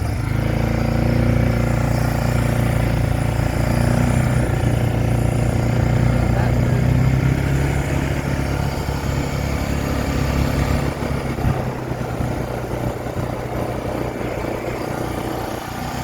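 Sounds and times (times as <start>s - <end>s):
road or wind noise: 0.0s - 16.0s
vehicle engine humming: 0.0s - 16.0s.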